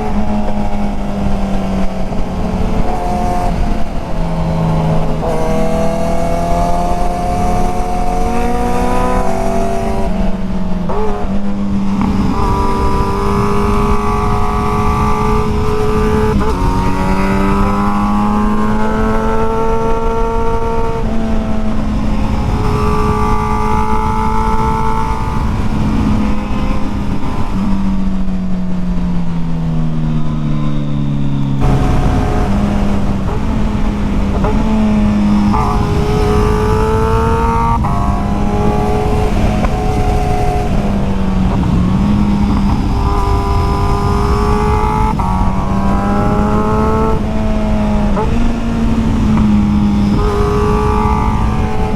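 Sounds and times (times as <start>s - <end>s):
motorcycle engine shifting gears: 0.0s - 51.9s
wind and road noise: 0.0s - 51.9s.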